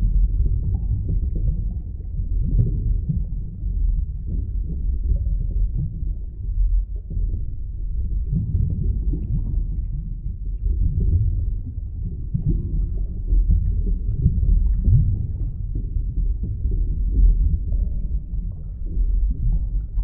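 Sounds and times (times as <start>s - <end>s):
underwater low rumble: 0.0s - 20.0s.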